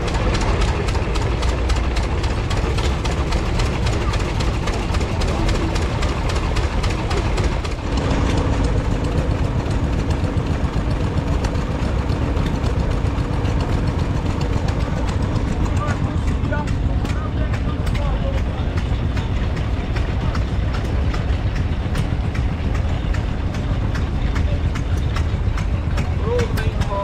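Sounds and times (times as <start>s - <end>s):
stationary engines running: 0.0s - 27.0s.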